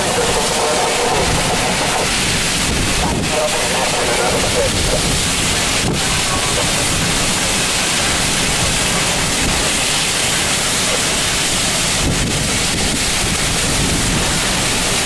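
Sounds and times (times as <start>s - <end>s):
wind buffeting microphone: 0.0s - 10.6s, 11.2s - 15.0s
heavy rain: 0.0s - 15.0s.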